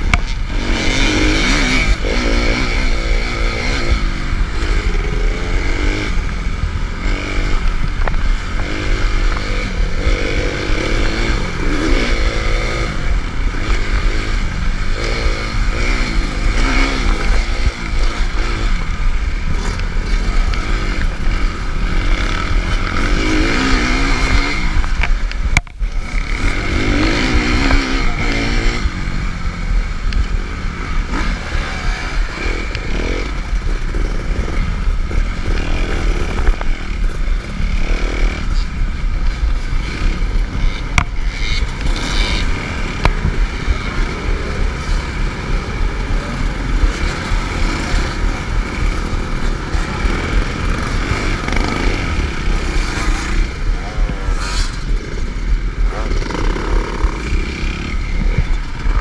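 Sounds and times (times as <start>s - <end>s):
constant low rumble: 0.0s - 59.0s
dirt bike engine revving: 0.0s - 59.0s.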